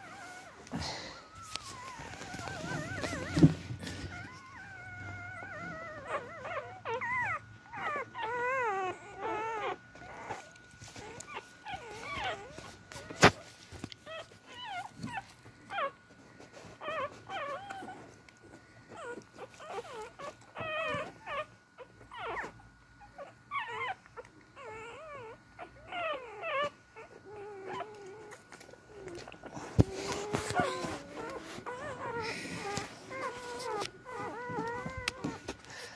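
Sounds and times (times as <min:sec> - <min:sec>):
puppies whimpering and squeaking: 0:00.0 - 0:35.9.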